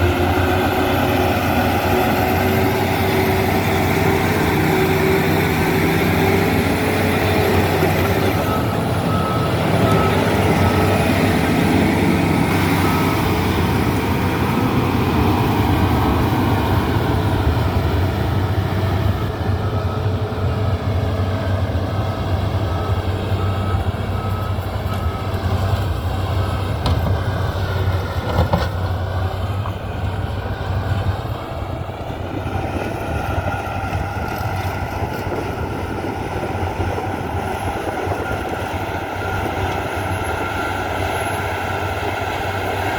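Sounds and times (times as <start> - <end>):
reversing alarm beeping: 0.0 - 28.5, 30.2 - 42.9
diesel engine running: 0.0 - 42.9.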